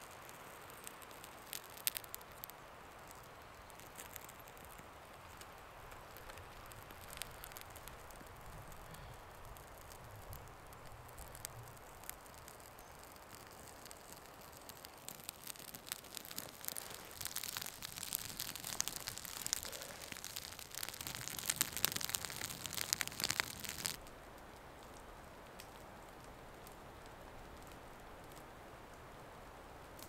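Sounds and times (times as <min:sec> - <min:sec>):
twig fire crackling: 0:00.0 - 0:30.0.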